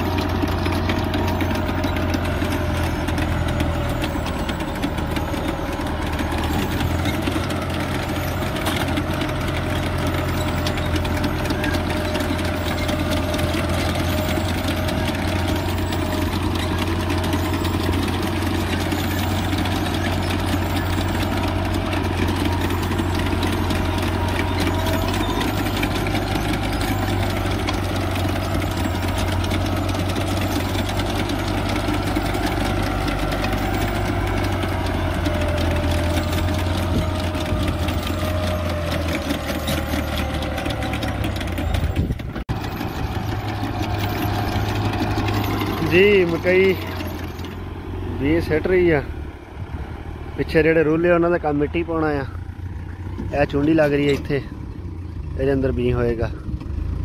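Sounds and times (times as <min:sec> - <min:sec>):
fine rapid rattling: 0:00.0 - 0:48.6
tractor diesel engine running: 0:00.0 - 0:57.0.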